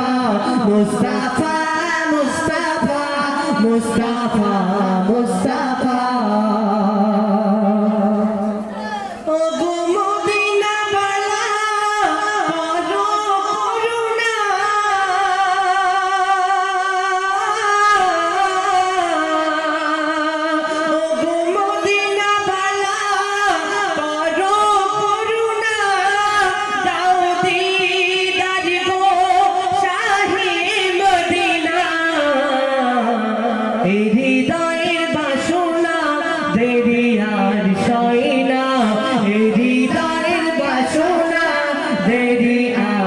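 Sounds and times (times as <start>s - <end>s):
person singing wordless melody: 0.0s - 43.0s.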